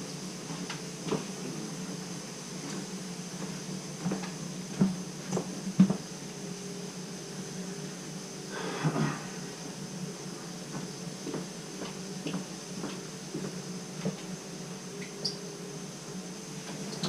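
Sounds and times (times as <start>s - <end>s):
water heater humming: 0.0s - 17.0s.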